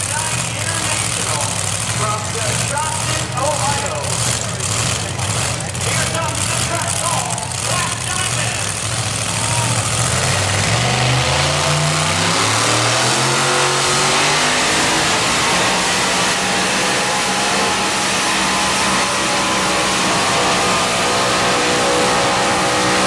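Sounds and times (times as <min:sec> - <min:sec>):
truck engine running at high revs: 0:00.0 - 0:23.0.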